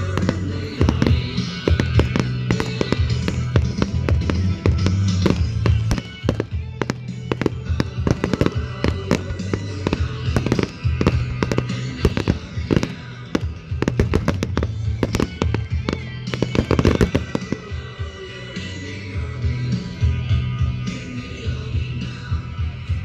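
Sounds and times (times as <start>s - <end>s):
fireworks bangs and crackles: 0.0s - 18.8s
loud music with bass line: 0.0s - 23.0s.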